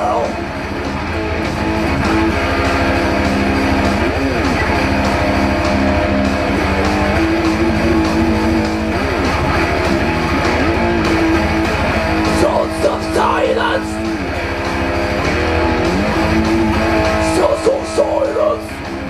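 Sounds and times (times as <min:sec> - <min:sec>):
bass guitar: 0:00.0 - 0:19.0
electric guitar: 0:00.0 - 0:19.0
steady drum beat: 0:00.0 - 0:19.0.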